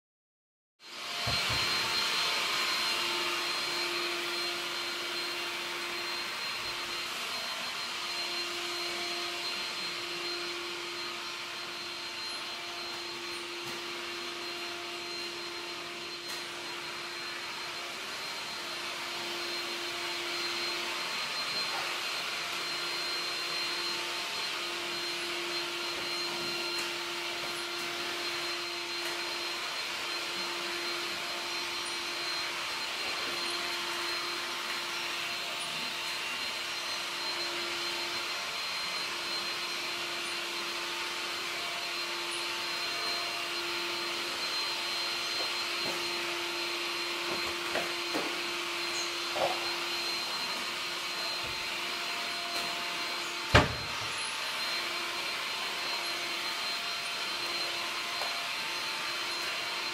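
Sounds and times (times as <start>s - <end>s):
vacuum tool on hardwood floor: 0.8s - 59.9s
backpack vacuum motor humming: 0.9s - 59.9s.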